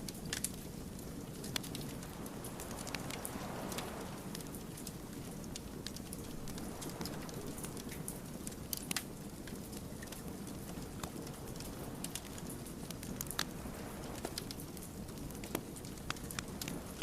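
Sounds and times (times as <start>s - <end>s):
firewood crackling: 0.0s - 17.0s.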